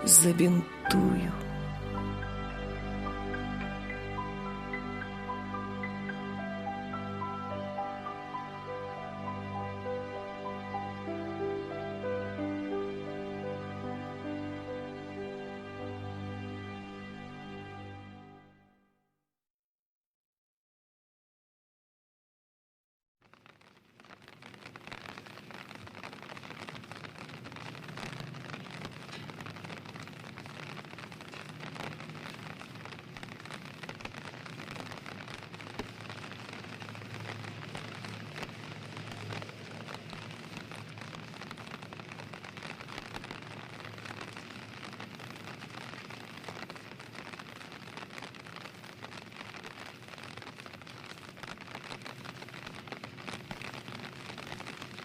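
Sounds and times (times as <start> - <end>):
steady rain falling: 0.0 - 18.3, 23.2 - 55.0.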